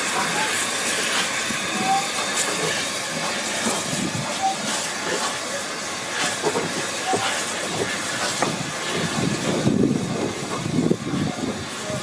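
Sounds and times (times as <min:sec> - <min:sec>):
steam hissing: 0:00.0 - 0:12.0
steam locomotive exhaust chuffs: 0:00.0 - 0:12.0.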